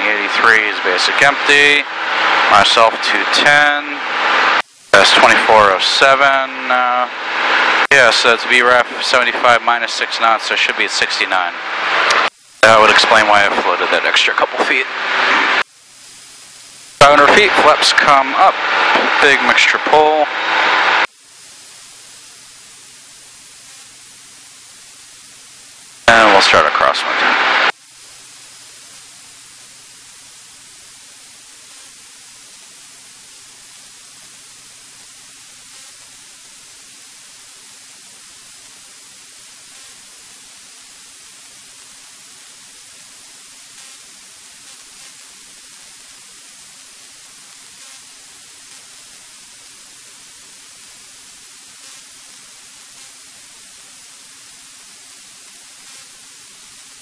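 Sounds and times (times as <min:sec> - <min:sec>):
static hiss: 0:00.0 - 0:57.0.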